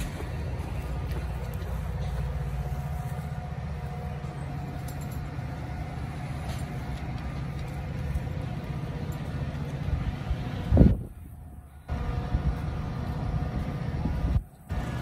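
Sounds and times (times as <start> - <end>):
diesel locomotive engine drone: 0.0 - 15.0
faint steady whine: 0.0 - 15.0.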